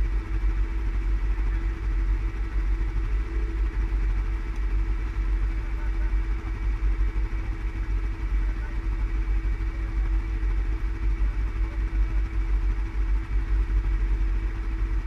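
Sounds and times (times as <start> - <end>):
atv engine idling low: 0.0 - 15.0.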